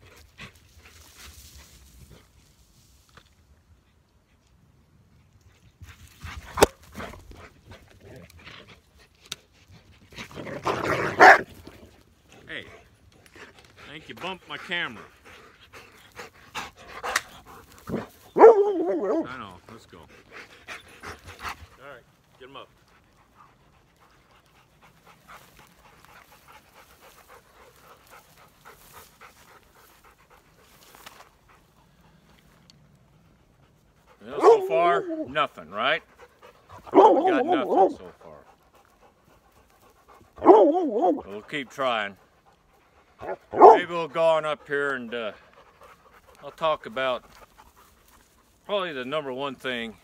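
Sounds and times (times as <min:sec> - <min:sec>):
dogs moving through dry grass: 0:00.0 - 0:04.4, 0:05.3 - 0:50.0
dogs panting: 0:03.7 - 0:50.0.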